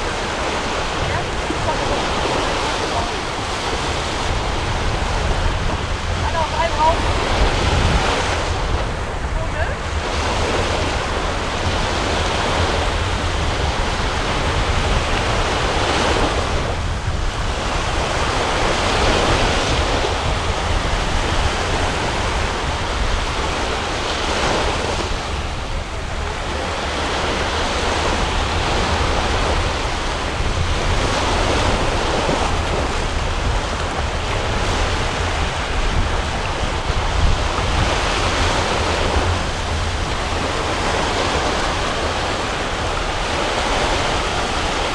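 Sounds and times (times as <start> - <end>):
surf: 0.0 - 44.9
wind buffeting microphone: 0.0 - 44.9.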